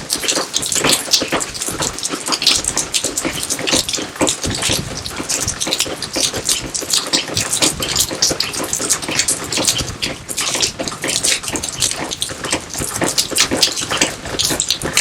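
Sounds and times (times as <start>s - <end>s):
fountain water splashing: 0.0s - 15.0s
rain falling: 0.0s - 15.0s.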